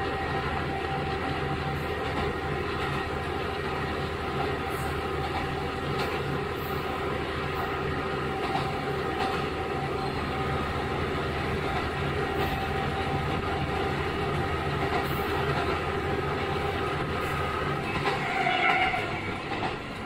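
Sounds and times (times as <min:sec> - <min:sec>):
train wheels rolling: 0:00.0 - 0:20.0.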